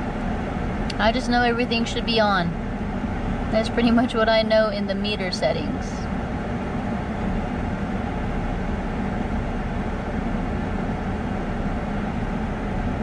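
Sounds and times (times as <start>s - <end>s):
car cabin hum and air rush: 0.0s - 13.0s.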